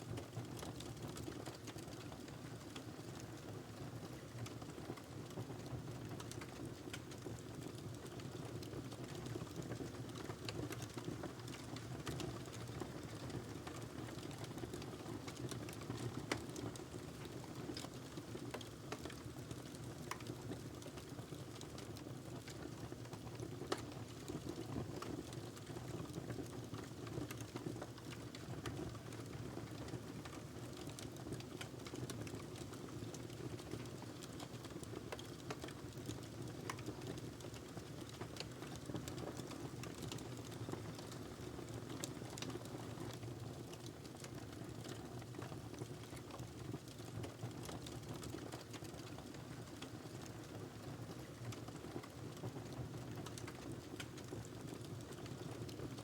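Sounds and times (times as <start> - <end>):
fire rumbling in a fireplace: 0.1 - 56.0
burning log crackling and popping: 6.0 - 50.6, 51.2 - 55.9.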